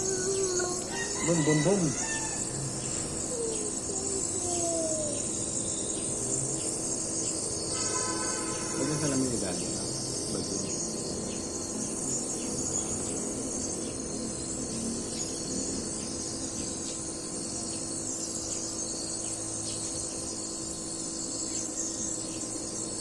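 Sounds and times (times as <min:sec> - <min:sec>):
compressor motor hum: 0:00.0 - 0:23.0.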